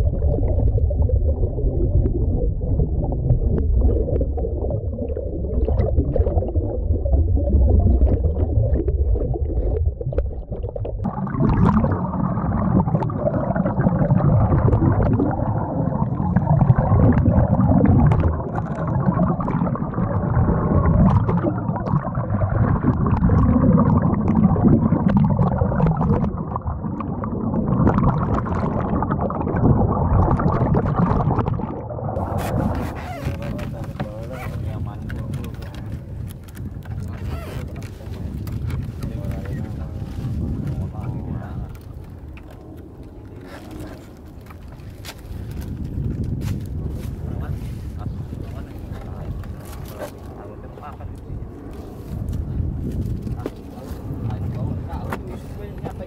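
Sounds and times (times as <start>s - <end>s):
underwater churning and bubbles: 0.0s - 56.0s.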